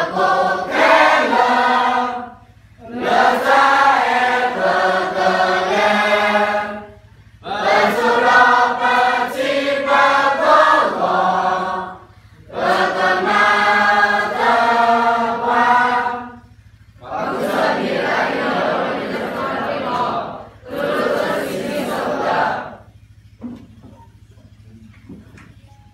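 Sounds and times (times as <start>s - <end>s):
group singing in unison: 0.0s - 22.9s.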